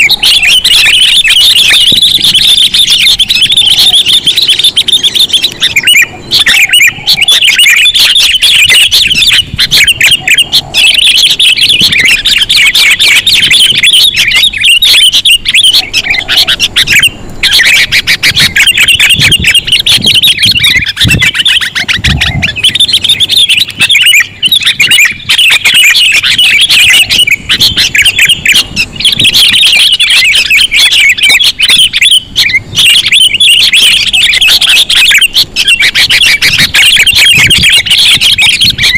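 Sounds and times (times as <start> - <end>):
bulbuls chattering calls: 0.0 - 38.9.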